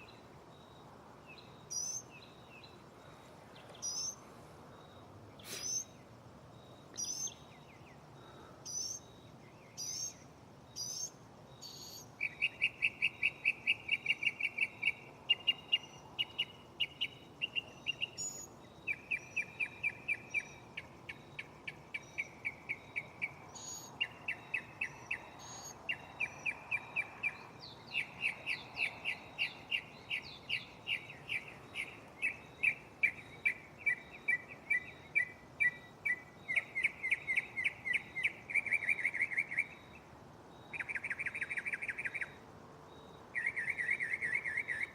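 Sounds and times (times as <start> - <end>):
mockingbird singing: 1.3 - 4.3, 5.3 - 40.0, 40.6 - 42.4, 43.4 - 44.9.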